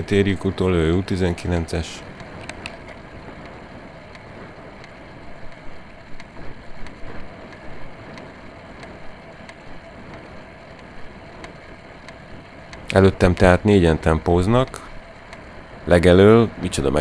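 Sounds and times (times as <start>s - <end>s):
faint irregular ticks: 0.0s - 17.0s
road and tyre noise: 0.0s - 17.0s
wind rushing over microphone: 0.0s - 17.0s.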